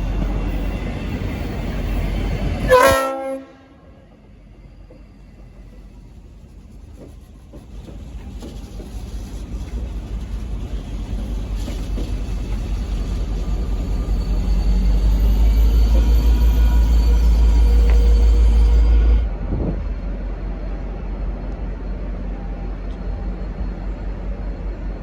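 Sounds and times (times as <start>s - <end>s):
diesel locomotive engine rumbling: 0.0s - 25.0s.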